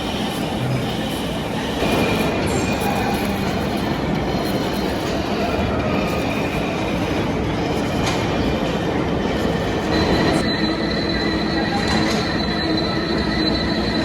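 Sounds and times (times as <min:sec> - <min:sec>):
metal lathe running: 0:00.0 - 0:14.0
thin high whine: 0:00.0 - 0:14.0.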